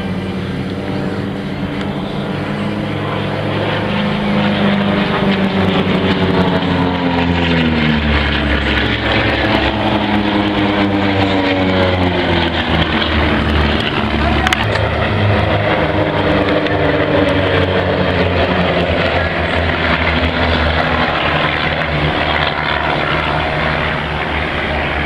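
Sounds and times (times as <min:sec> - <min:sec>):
propeller airplane passing: 0:00.0 - 0:25.0.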